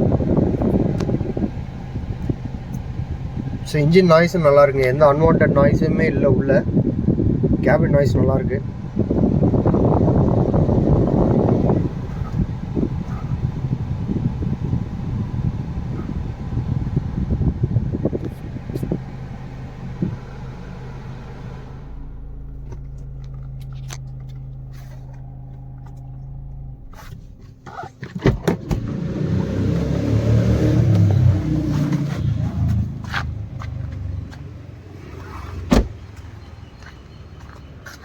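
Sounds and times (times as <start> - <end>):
diesel engine idling: 0.0 - 28.0, 28.8 - 35.2
engine clicks and knocks: 0.0 - 34.7.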